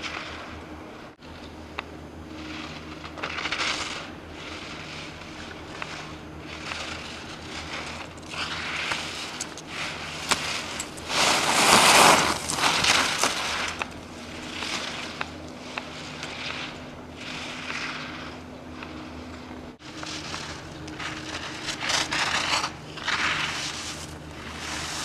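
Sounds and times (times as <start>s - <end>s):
skis scraping on hard snow: 2.4s - 19.2s, 19.8s - 25.0s.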